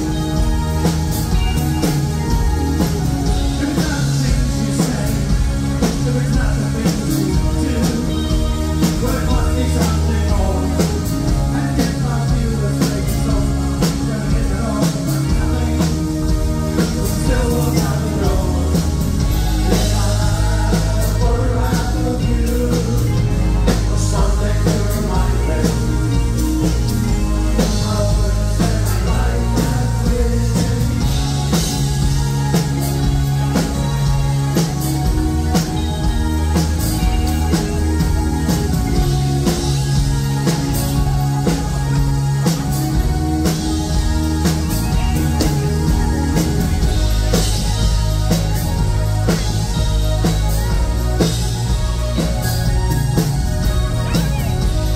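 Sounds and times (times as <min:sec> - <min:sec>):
drum kit beat: 0:00.0 - 0:54.9
electric guitars: 0:00.0 - 0:54.9
synthesizer keyboard: 0:00.0 - 0:54.9.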